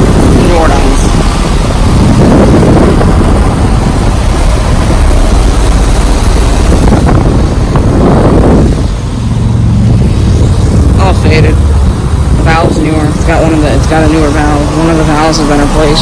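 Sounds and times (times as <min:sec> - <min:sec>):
condenser fans whooshing: 0:00.0 - 0:16.0
low hum: 0:00.0 - 0:16.0.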